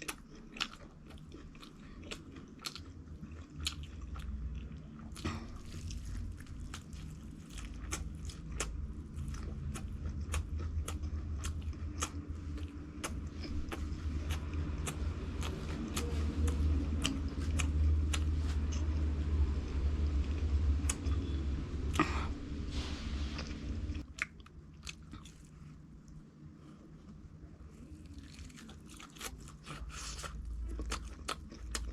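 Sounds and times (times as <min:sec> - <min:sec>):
chewing crunchy food: 0:00.0 - 0:22.2, 0:23.4 - 0:25.8, 0:27.8 - 0:31.9
deep steady rumble: 0:00.0 - 0:31.9.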